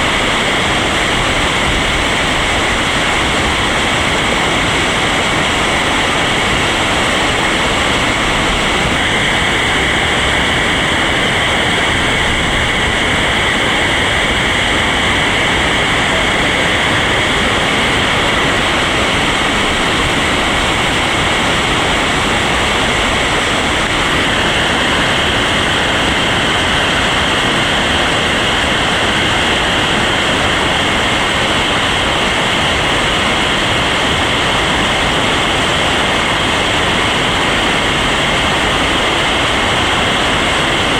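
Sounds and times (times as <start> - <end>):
whitewater rapids rushing: 0.0 - 40.9.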